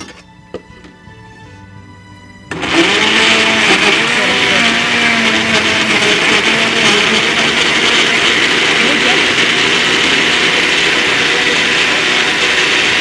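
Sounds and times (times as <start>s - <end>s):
electric blender whirring: 2.5s - 13.0s.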